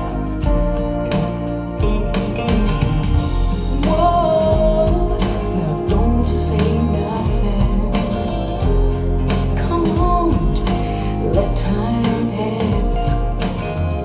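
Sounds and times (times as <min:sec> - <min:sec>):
rock song with singing: 0:00.0 - 0:14.0.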